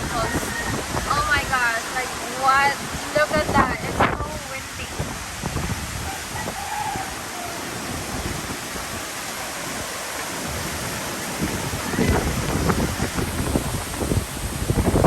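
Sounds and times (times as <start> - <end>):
wind gusts buffeting microphone: 0.0 - 15.0
wind rushing: 0.0 - 15.0.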